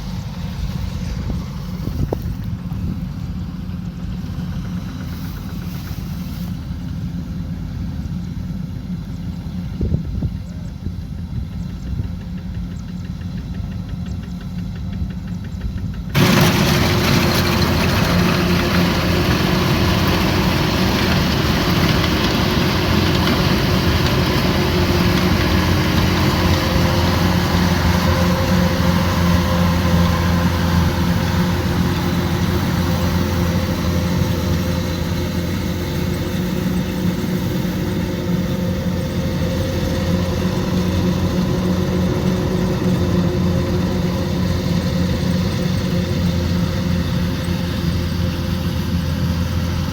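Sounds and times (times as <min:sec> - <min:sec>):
diesel engine hum: 0:00.0 - 0:49.9.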